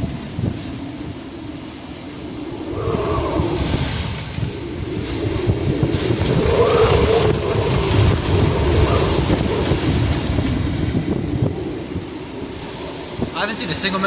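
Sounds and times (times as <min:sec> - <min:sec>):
howling wind gusts: 0:00.0 - 0:14.0.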